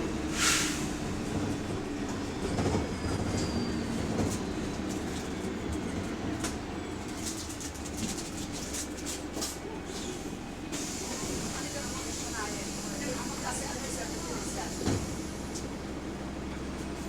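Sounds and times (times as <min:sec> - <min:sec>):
bus drivetrain and road rumble: 0:00.0 - 0:17.0.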